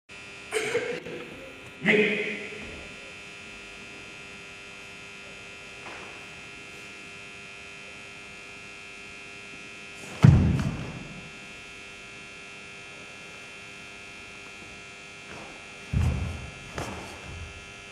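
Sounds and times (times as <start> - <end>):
steady hum: 0.1 - 17.9.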